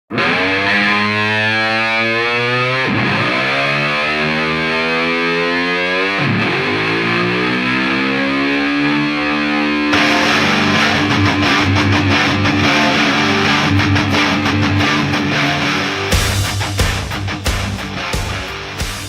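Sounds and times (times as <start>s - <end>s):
distorted electric guitar chords: 0.1s - 19.0s.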